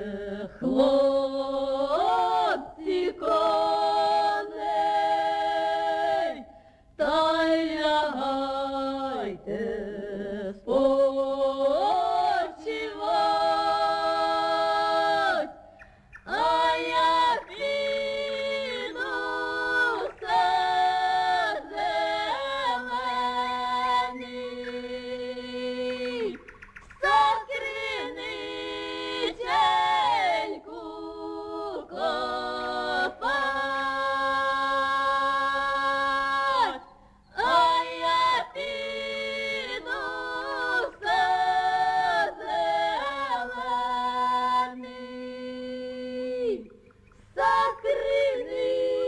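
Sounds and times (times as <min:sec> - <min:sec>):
person singing unaccompanied: 0:00.0 - 0:15.6, 0:16.2 - 0:49.0.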